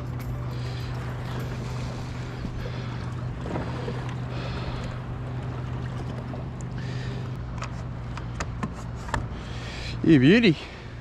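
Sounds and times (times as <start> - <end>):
water swishing along kayak hull: 0.0 - 9.8
steady low hum: 0.0 - 11.0.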